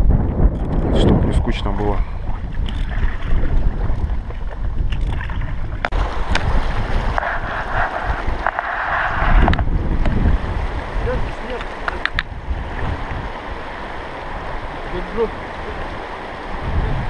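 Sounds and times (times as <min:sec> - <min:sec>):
wind buffeting the microphone: 0:00.0 - 0:17.0
water rushing in river rapid: 0:01.8 - 0:17.0.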